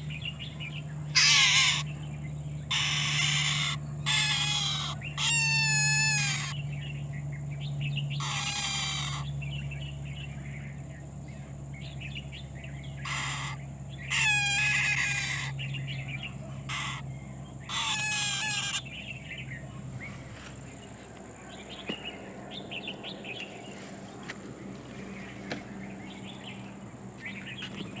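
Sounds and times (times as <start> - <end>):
faint high bird chirping: 0.0 - 24.2
bird calls with falling notes: 0.0 - 28.0.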